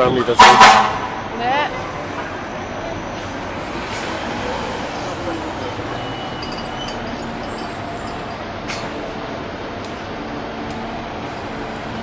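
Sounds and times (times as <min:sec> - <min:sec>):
fire engine engine: 0:00.0 - 0:12.0
street traffic: 0:00.0 - 0:12.0.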